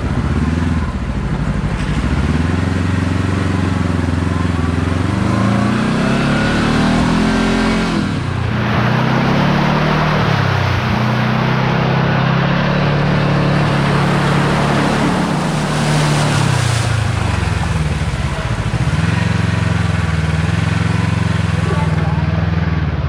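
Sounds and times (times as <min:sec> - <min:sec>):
utv engine running: 0:00.0 - 0:23.0
wind: 0:00.0 - 0:23.0.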